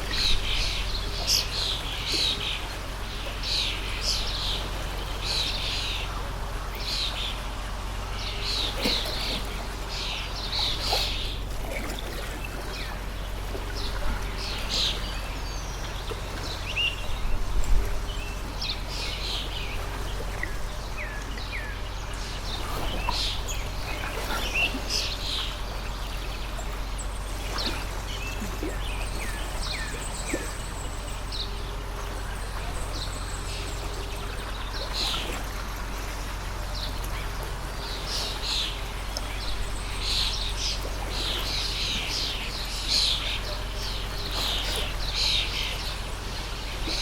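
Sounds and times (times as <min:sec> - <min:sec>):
small birds chirping: 0:00.0 - 0:47.0
stream flowing: 0:00.0 - 0:47.0.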